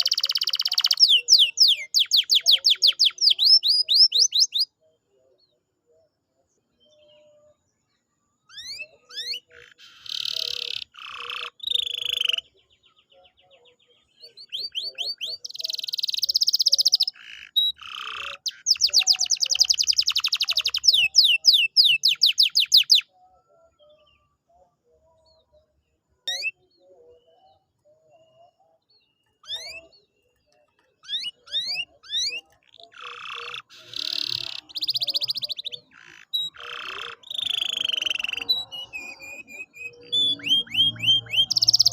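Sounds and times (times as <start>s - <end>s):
canary singing trills: 0.0s - 7.7s, 8.4s - 41.9s.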